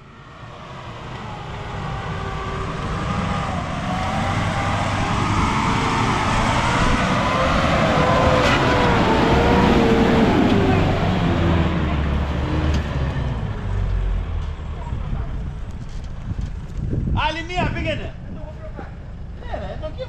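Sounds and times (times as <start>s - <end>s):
car engine under load: 0.0s - 20.0s
tyre and drivetrain noise: 0.0s - 20.0s.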